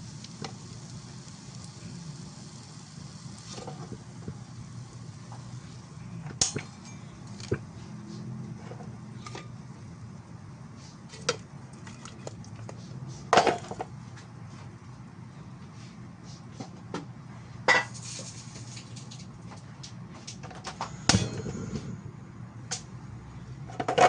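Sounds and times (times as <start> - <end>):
low steady hum: 0.0 - 13.9, 17.3 - 23.9.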